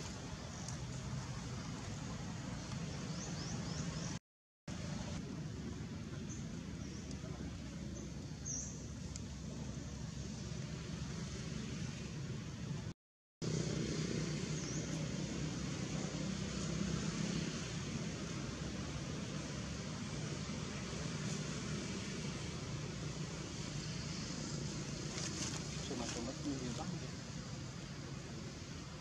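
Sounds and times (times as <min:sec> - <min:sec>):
background noise with low hum: 0:00.0 - 0:29.0.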